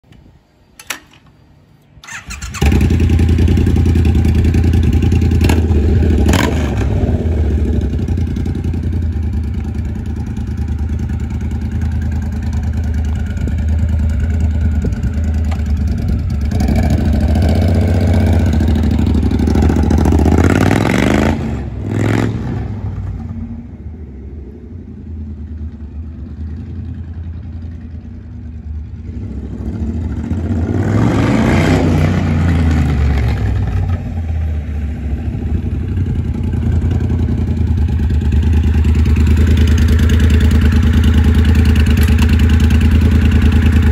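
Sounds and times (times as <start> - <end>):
motorcycle engine starting: 2.0 - 43.9
motorcycle engine revving: 2.1 - 43.9.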